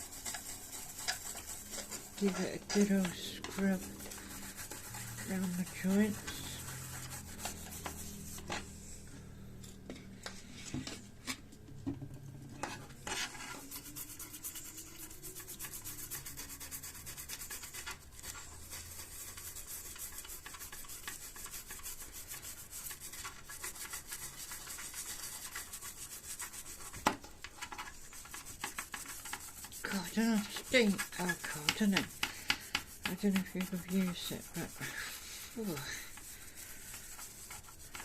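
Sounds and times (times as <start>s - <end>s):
toothbrush scrubbing circuit board: 0.0s - 8.5s, 13.1s - 38.0s.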